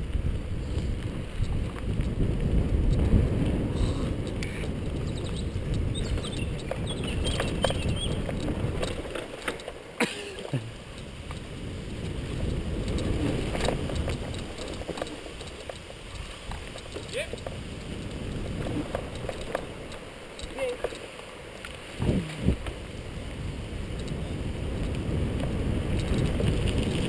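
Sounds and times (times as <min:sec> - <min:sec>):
wind rushing over microphone: 0:00.0 - 0:09.6, 0:10.5 - 0:20.7, 0:21.8 - 0:27.0
bicycle tyre rumble: 0:00.0 - 0:27.0
bike clicks and rattles: 0:00.1 - 0:23.0, 0:23.6 - 0:27.0.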